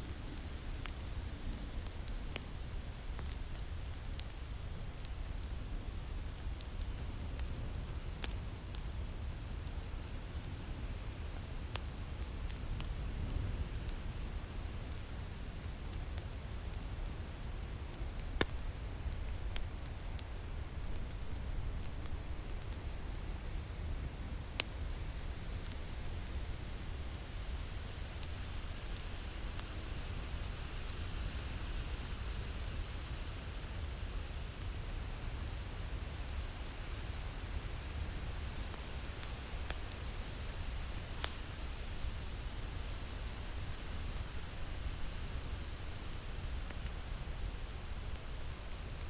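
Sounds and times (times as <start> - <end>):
fire crackling: 0.0 - 49.0.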